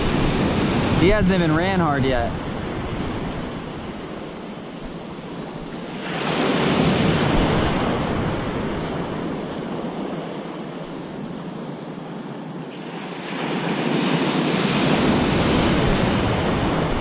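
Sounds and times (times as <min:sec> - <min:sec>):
ocean surf washing in: 0:00.0 - 0:17.0.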